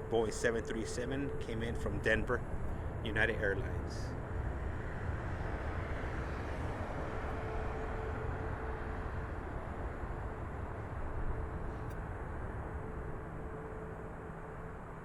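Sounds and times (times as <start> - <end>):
distant jet airliner rumble: 0.0 - 15.0
faint steady hum: 0.0 - 15.0.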